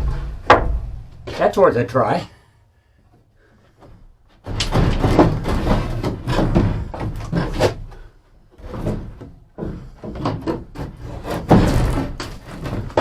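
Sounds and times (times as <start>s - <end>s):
wood knocking and scraping on wood: 0.0s - 1.6s, 3.1s - 13.0s.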